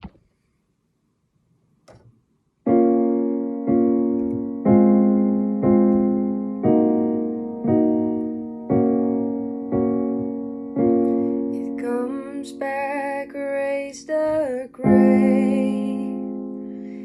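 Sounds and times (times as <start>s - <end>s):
piano chords ringing: 2.7s - 17.0s.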